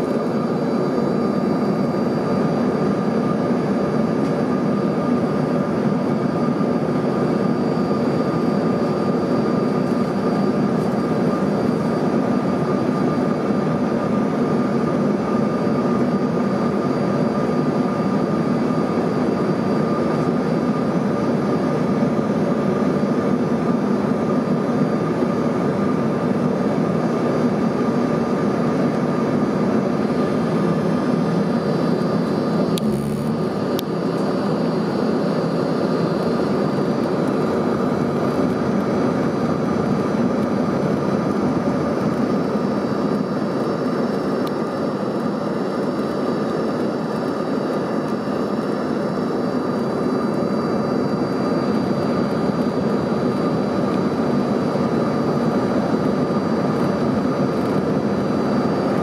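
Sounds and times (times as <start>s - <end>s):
jet engine drone: 0.0s - 59.0s
thin steady whine: 0.0s - 59.0s.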